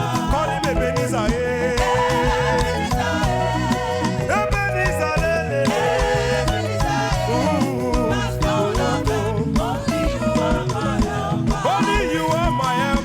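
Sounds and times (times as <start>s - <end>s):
band playing upbeat groove: 0.0s - 13.0s
people singing: 0.0s - 13.0s.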